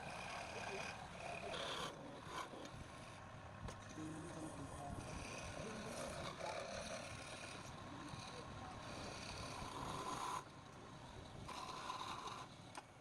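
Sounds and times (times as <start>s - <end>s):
wood lathe whining: 0.0s - 13.0s.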